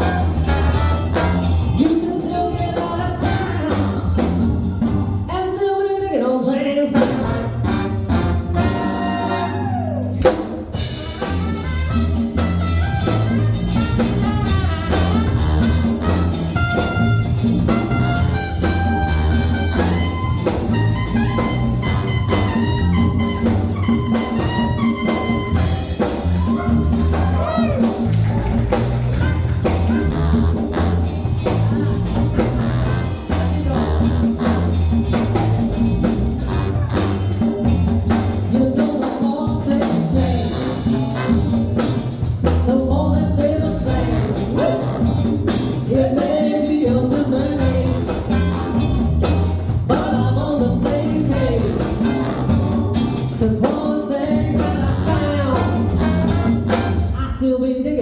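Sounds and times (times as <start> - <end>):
band playing instrumental music: 0.0 - 5.7, 6.8 - 57.8.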